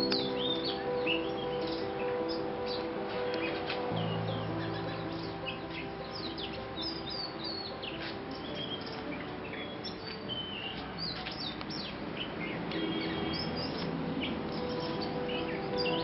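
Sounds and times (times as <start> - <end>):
songbirds singing: 0.0 - 16.0
sustained music notes: 0.0 - 16.0.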